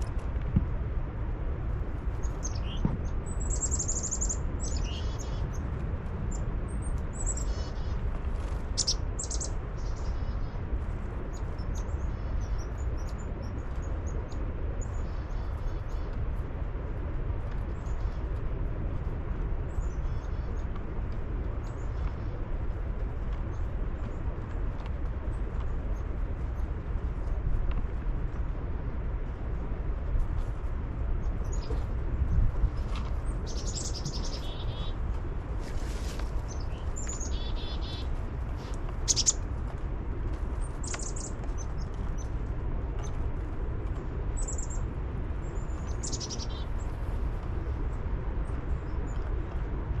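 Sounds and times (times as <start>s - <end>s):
steady low rumble: 0.0s - 50.0s
small birds chirping: 2.0s - 16.8s, 17.5s - 49.6s.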